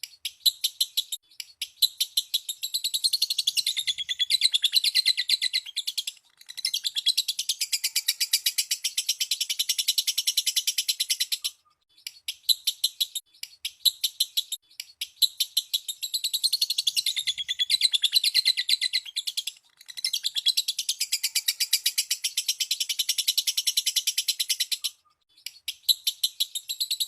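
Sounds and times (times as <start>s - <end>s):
lovebird chattering trill: 0.3s - 27.0s.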